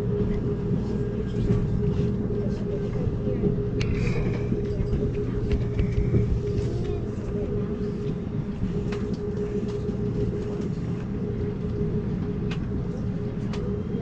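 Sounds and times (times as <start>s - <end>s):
constant hum: 0.0s - 14.0s
train rumbling on track: 0.0s - 14.0s.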